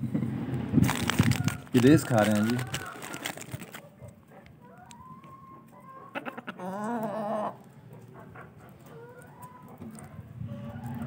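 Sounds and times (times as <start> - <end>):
chickens calling: 0.8 - 11.0.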